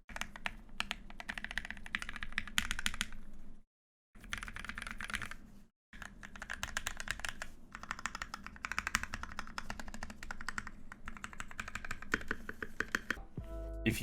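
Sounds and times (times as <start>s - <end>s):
fast mechanical keyboard typing: 0.1s - 3.3s, 4.2s - 5.4s, 6.0s - 13.2s.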